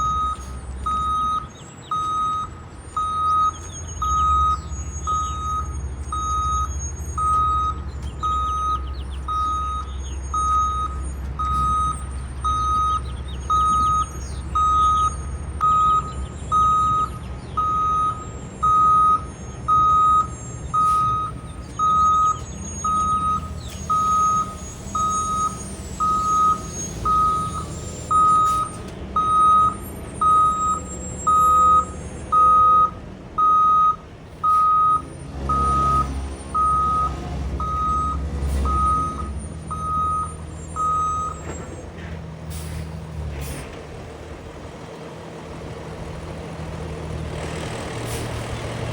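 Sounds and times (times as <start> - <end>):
reversing alarm beeping: 0.0 - 41.9
heavy engines rumbling: 0.0 - 48.9.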